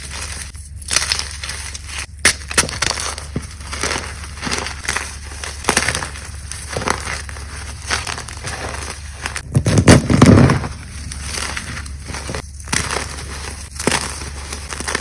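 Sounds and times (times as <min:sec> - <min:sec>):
chalk cubes crunching: 0:00.0 - 0:15.0.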